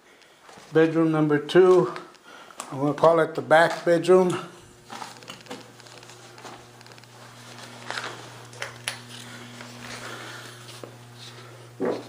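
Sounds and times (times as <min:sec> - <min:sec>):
steady low hum: 0:01.2 - 0:12.0.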